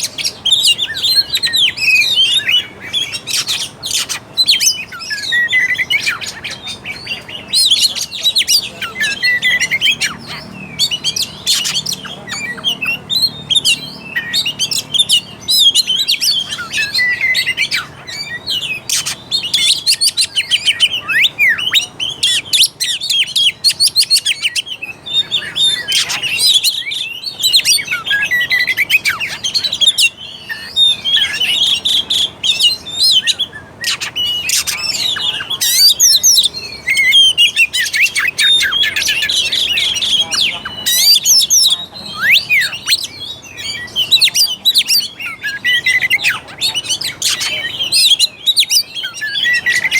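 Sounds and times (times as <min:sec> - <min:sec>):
bird harsh chattering: 0:00.0 - 0:49.9
bird singing whistled notes: 0:00.0 - 0:49.9.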